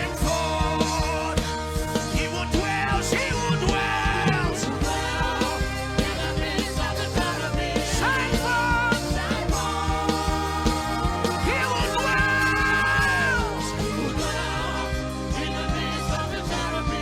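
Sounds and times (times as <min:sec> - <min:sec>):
steady drum beat: 0:00.0 - 0:17.0
sustained keyboard chords: 0:00.0 - 0:17.0.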